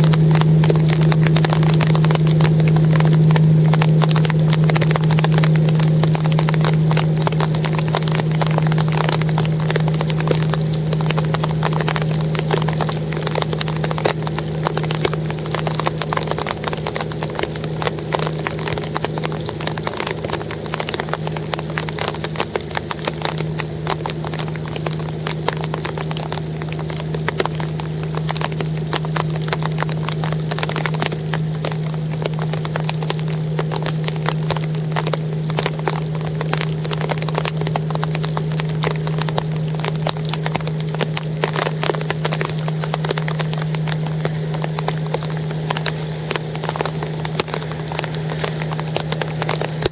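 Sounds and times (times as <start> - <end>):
rain drops on wooden boat: 0.0 - 49.9
steady low hum: 0.0 - 49.9.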